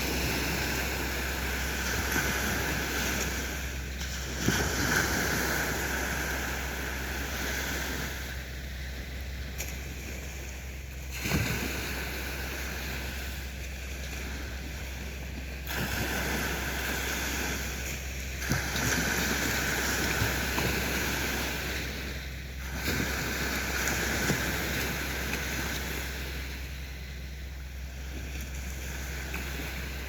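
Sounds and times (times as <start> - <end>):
sea waves breaking: 0.0 - 30.0.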